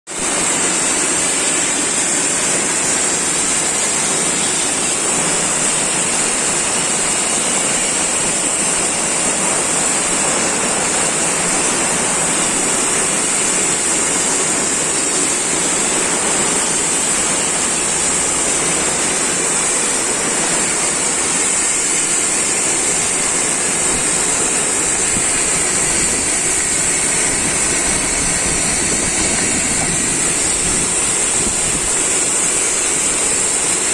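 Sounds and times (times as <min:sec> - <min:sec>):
heavy rain falling: 0:00.1 - 0:33.9
high-pitched hiss: 0:00.1 - 0:33.9.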